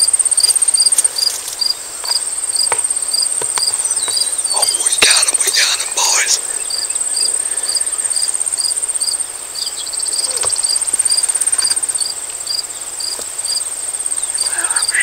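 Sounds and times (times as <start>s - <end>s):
insect chirping rhythmically: 0.0s - 15.0s
insect pulsing trill: 0.0s - 15.0s.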